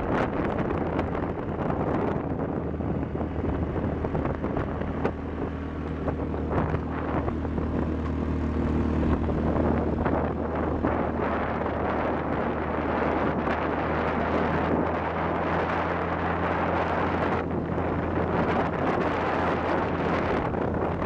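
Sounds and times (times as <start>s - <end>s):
atv engine droning: 0.0s - 21.0s
wind buffeting microphone: 0.0s - 21.0s.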